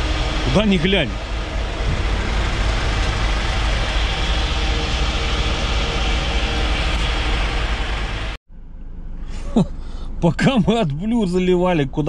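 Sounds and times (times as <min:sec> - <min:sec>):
deep unsteady rumble: 0:00.0 - 0:12.0
loud mechanical running noise: 0:00.0 - 0:12.0.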